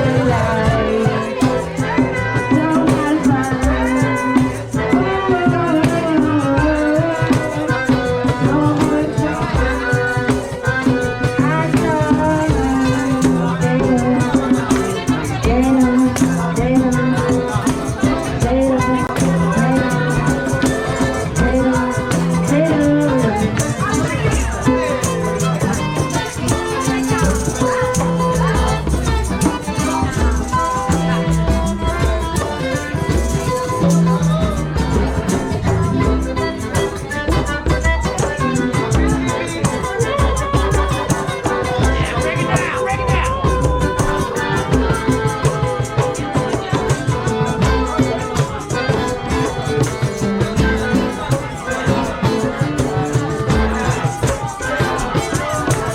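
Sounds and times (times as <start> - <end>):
bass line: 0.0 - 46.8
music with steady beat: 0.0 - 55.9.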